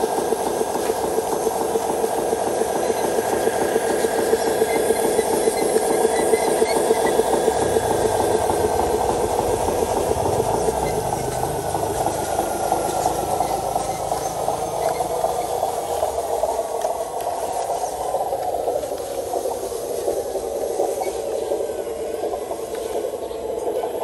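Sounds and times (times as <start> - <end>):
model truck buzzing rattle: 0.0 - 21.7.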